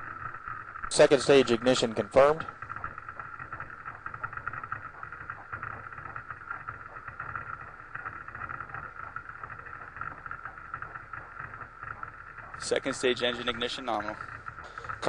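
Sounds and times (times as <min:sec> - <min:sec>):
crackling radio static hiss: 0:00.0 - 0:15.0
low rumble: 0:00.0 - 0:15.0.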